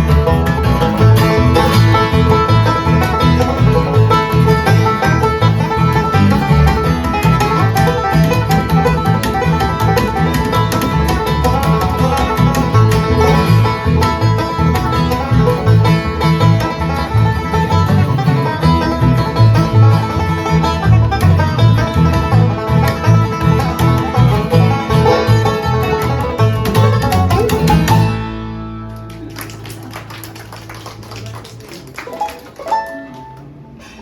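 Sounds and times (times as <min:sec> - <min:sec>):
pulsing low bass line: 0:00.0 - 0:29.3
bluegrass banjo and guitar: 0:00.0 - 0:33.7.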